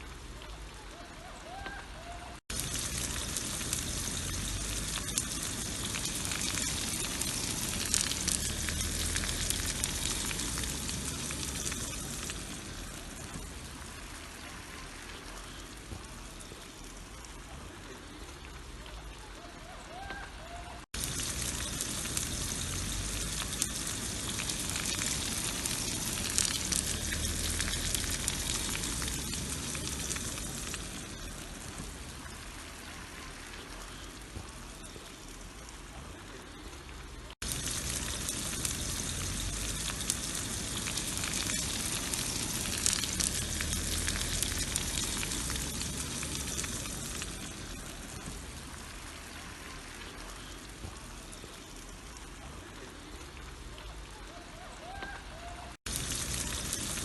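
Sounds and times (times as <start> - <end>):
sausage sizzling in oil: 2.4 - 18.6, 20.8 - 53.8, 54.8 - 57.0.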